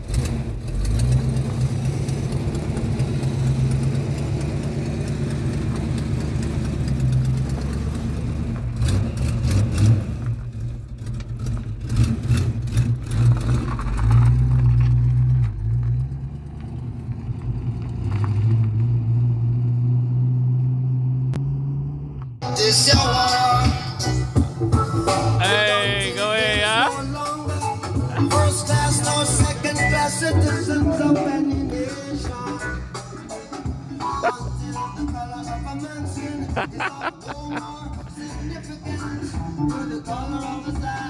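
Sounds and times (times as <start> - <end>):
car engine revving: 0.0 - 22.4, 26.9 - 41.0.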